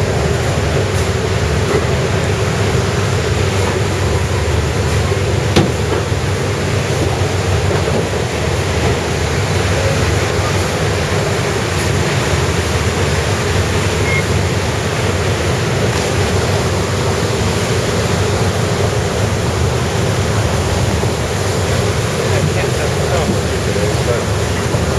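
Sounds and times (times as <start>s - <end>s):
train rushing along tracks: 0.0s - 24.9s.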